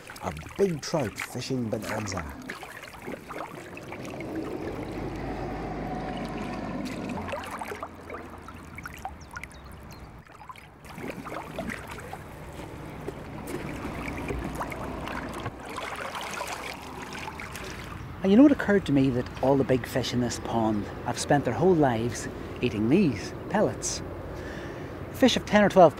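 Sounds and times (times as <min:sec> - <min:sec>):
water sloshing and splashing: 0:00.0 - 0:22.8.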